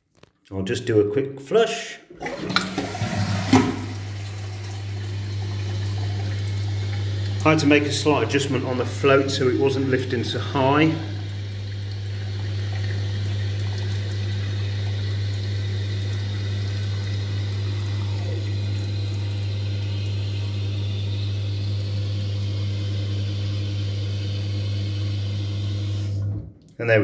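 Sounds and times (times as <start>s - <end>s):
water hissing into cistern: 2.2s - 26.2s.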